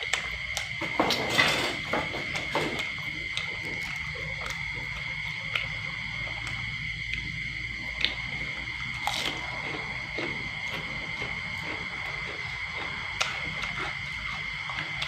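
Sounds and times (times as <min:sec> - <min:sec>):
night insects chorus: 0:00.0 - 0:15.0.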